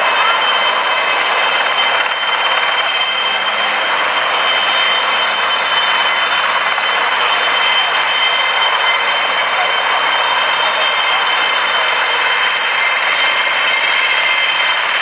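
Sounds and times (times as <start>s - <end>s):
helicopter engine whine: 0.0s - 15.0s
helicopter rotor rushing noise: 0.0s - 15.0s.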